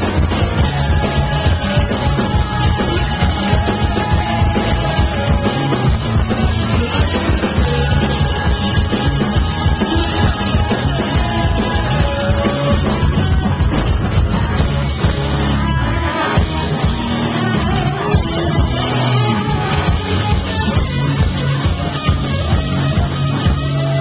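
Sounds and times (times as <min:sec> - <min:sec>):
person singing: 0:00.0 - 0:24.0
rock band playing live: 0:00.0 - 0:24.0.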